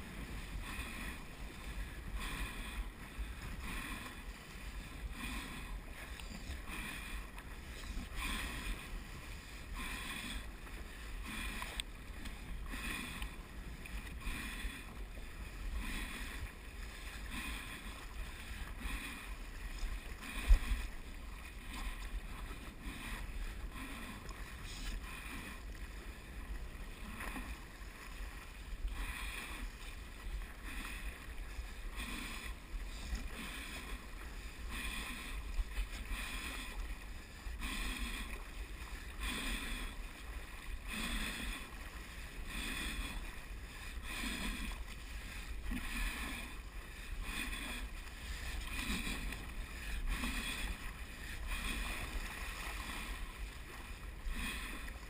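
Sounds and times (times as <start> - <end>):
paddle strokes in water: 0.0 - 55.0.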